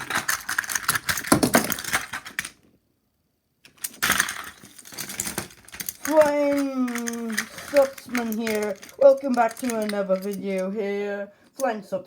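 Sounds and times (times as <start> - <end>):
toys clattering: 0.0 - 2.8, 3.6 - 11.8.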